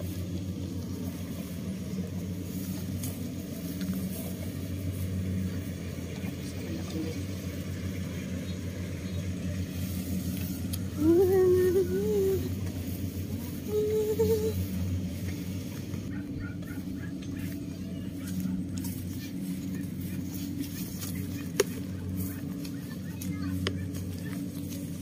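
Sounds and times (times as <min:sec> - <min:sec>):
combine harvester engines droning: 0:00.0 - 0:25.0.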